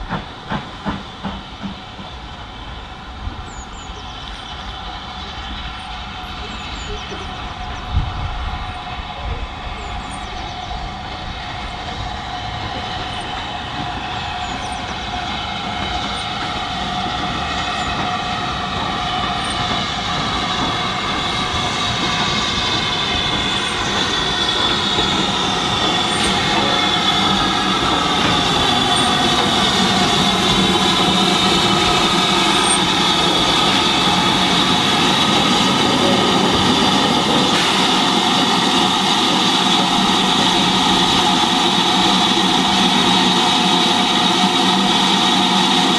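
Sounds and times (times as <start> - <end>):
steam hissing: 0.0 - 45.9
steam locomotive running slowly: 0.0 - 45.9
high squeal: 8.6 - 45.9.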